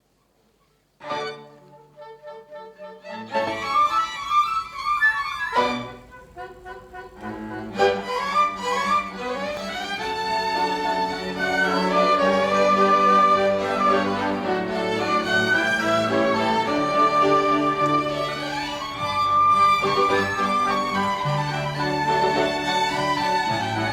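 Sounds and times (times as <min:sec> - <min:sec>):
violin ensemble sustained notes: 0:01.0 - 0:23.9.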